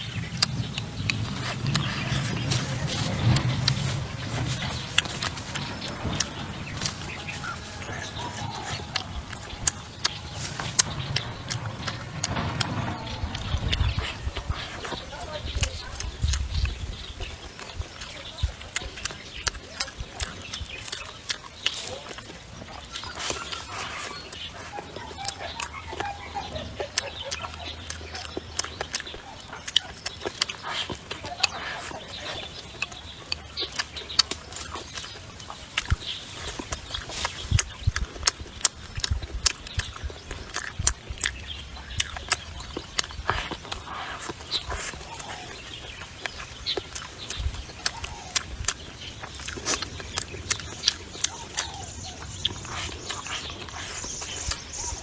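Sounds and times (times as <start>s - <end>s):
chickens clucking: 0.0s - 55.0s
person chewing crispy food: 0.0s - 55.0s.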